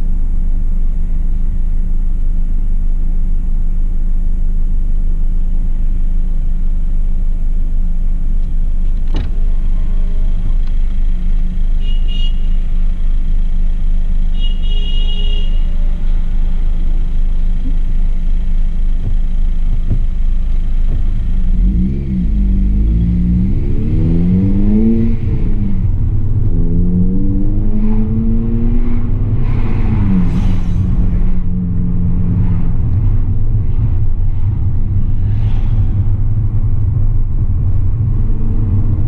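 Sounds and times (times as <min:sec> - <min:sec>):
car engine idling: 0:00.0 - 0:27.3, 0:28.2 - 0:39.0.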